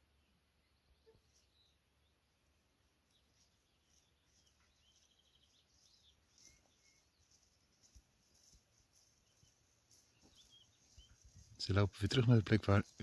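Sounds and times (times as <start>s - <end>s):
distant bird chirps and trill: 0.0s - 11.6s.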